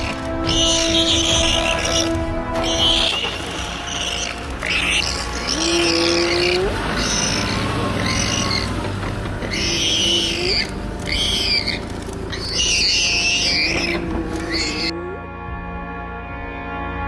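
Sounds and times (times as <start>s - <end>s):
hyenas calling: 0.0s - 15.3s.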